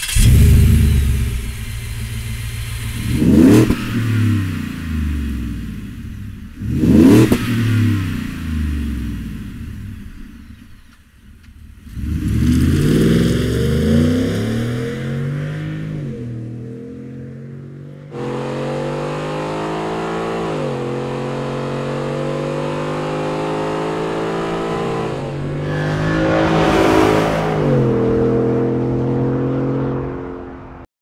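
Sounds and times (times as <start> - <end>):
engine revving: 0.0 - 10.8, 11.4 - 30.8.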